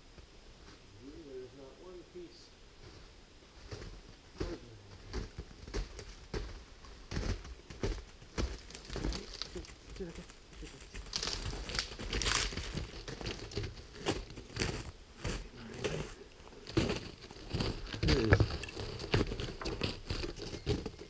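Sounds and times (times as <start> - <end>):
footsteps crunching through snow: 2.8 - 21.0.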